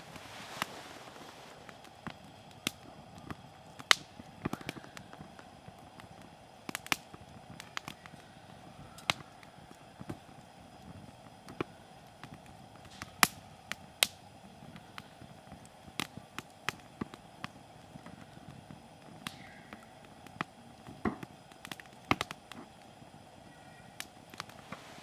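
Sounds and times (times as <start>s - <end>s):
campfire crackling and popping: 0.0s - 25.0s
faint steady hiss: 0.0s - 25.0s.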